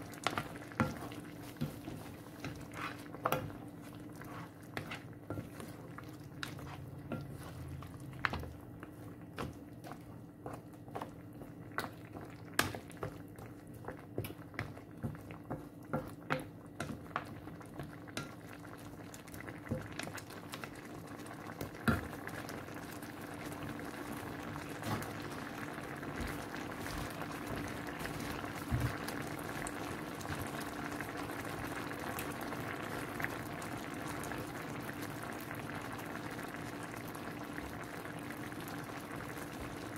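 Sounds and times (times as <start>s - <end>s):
sauce bubbling in a pan: 0.0s - 39.9s.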